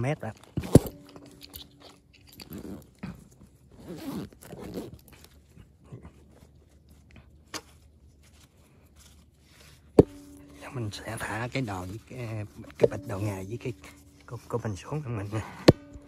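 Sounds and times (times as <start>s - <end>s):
soft rustling and crunching: 0.0s - 16.0s.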